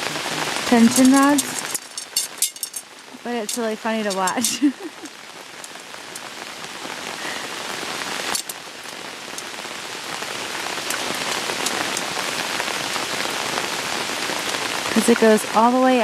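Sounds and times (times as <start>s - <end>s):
heavy rain: 0.0s - 16.0s
rain drop ticks: 0.0s - 16.0s.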